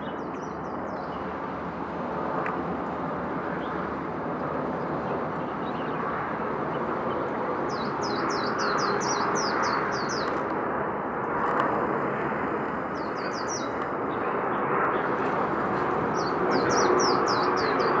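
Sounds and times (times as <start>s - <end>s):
steady outdoor noise: 0.0s - 18.0s.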